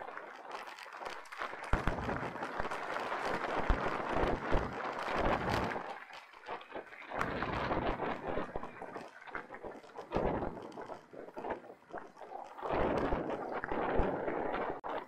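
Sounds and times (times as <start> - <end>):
bike tyres crackling on gravel: 0.0 - 15.0.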